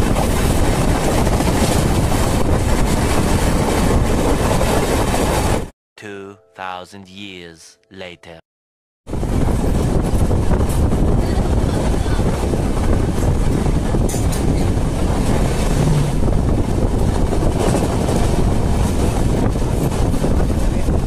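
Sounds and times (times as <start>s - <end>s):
wind rushing over microphone: 0.0s - 5.7s, 9.1s - 21.0s.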